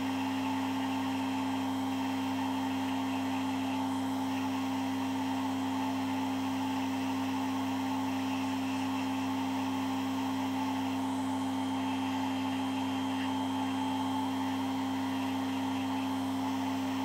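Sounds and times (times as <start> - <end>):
electric nail drill humming: 0.0 - 17.0.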